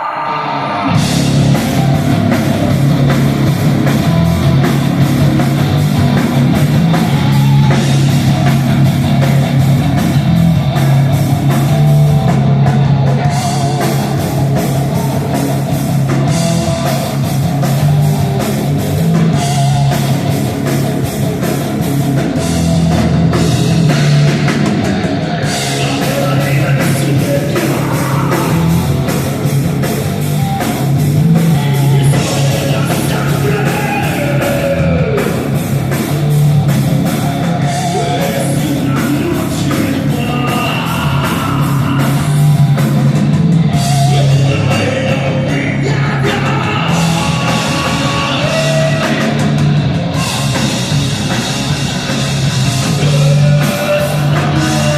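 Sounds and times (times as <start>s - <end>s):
electric guitar: 0.0s - 54.9s
heavy bass: 0.0s - 54.9s
drum kit: 0.8s - 54.9s.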